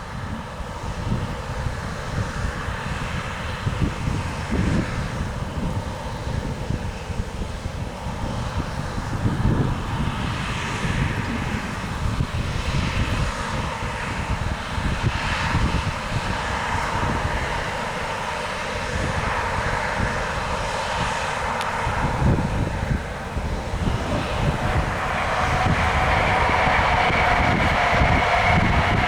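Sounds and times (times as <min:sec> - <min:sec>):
combine harvester engine drone: 0:00.0 - 0:29.0.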